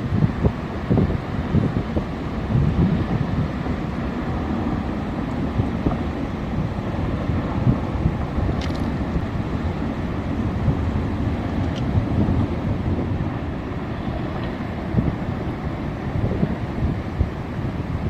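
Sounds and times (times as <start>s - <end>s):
avalanche rumbling: 0.0s - 18.0s
wind on microphone: 0.0s - 18.0s.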